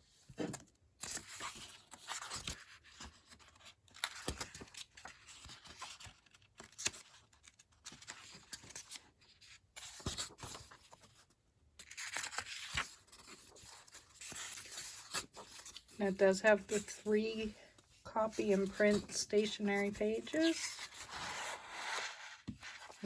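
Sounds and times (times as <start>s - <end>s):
pages being turned: 0.5s - 16.0s, 18.5s - 23.0s.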